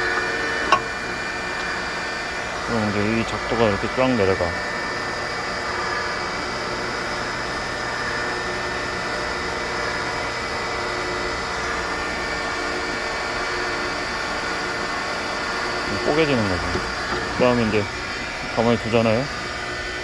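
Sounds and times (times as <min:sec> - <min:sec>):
hydraulic pump humming and whining: 0:00.0 - 0:20.0.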